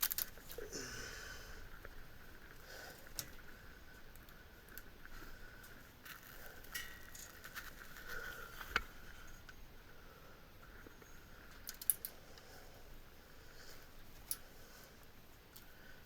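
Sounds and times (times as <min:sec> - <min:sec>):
faint high hum: 0:00.0 - 0:16.0.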